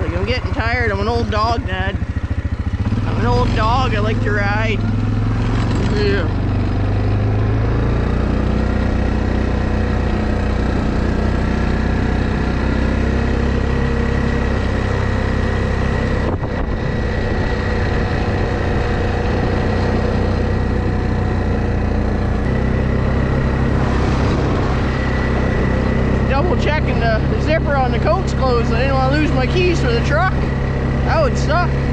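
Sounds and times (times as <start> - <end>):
atv engine running: 0.0 - 31.9.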